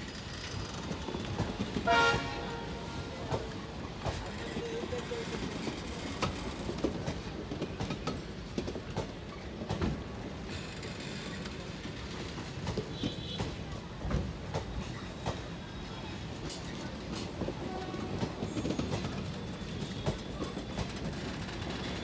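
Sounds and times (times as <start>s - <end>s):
train wheels rumbling on rail: 0.0s - 22.0s
wheels clacking over rail joints: 0.0s - 22.0s.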